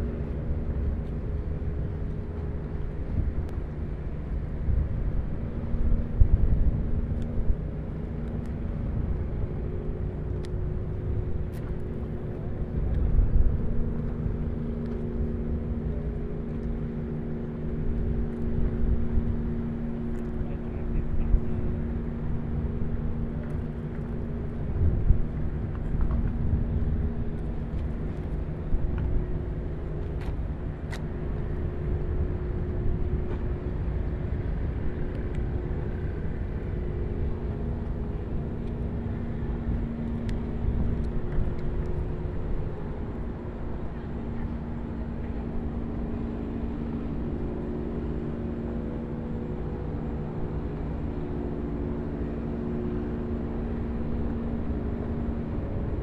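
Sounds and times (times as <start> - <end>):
ship engine drone: 0.0 - 56.0.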